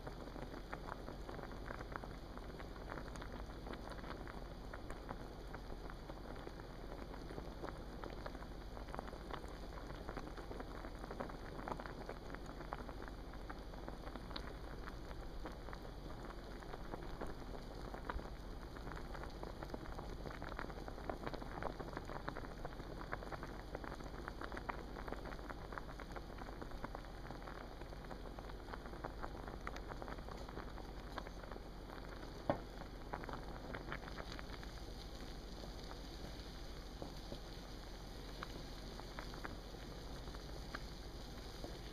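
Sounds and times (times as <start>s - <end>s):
water boiling in a pot: 0.0s - 41.9s.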